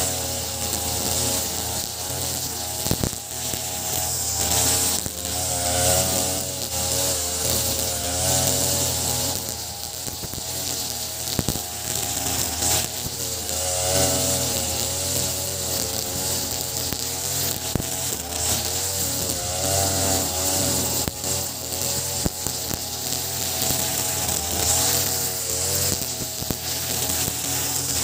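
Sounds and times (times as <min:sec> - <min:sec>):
brush cutter engine running: 0:00.0 - 0:28.0.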